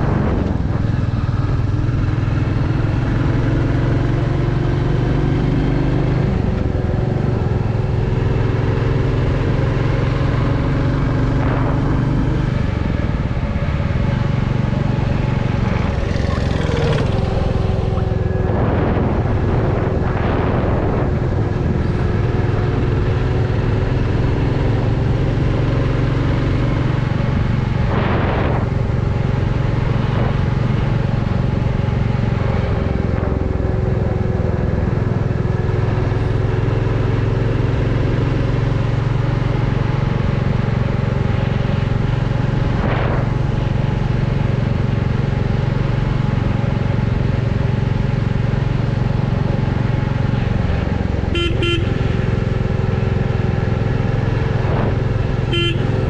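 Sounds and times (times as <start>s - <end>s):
motorcycle engine and exhaust running: 0.0s - 56.0s
road noise: 0.0s - 56.0s.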